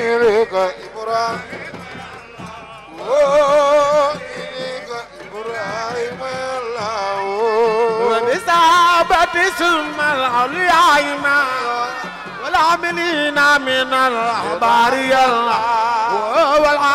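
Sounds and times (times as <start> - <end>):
man chanting into a microphone: 0.0 - 16.9.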